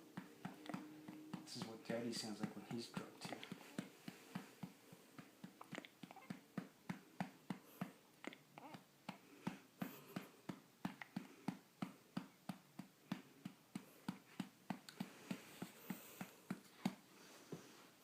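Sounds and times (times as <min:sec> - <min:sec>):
soft pats on baby's back: 0:00.1 - 0:08.0, 0:08.6 - 0:17.8.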